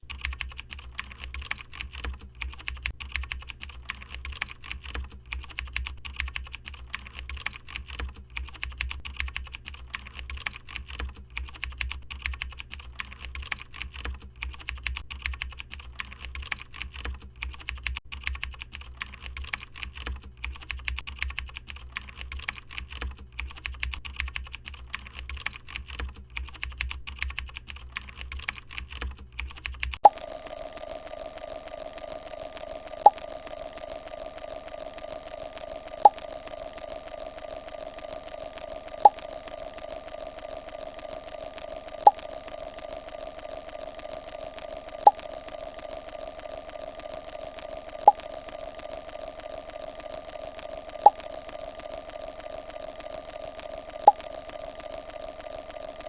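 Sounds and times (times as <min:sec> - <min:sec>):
fast keyboard typing: 0:00.0 - 0:56.0.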